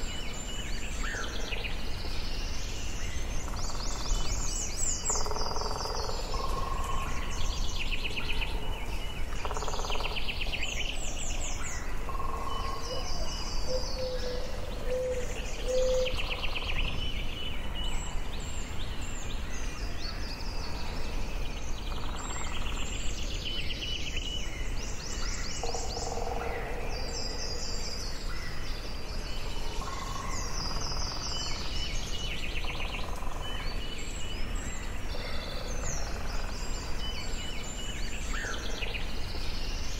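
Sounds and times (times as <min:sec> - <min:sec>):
low background noise: 0:00.0 - 0:39.9
songbirds singing and trilling: 0:00.0 - 0:39.9.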